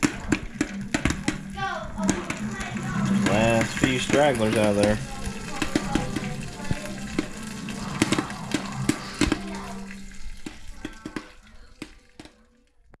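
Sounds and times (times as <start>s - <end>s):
popcorn popping in a pot: 0.0s - 13.0s.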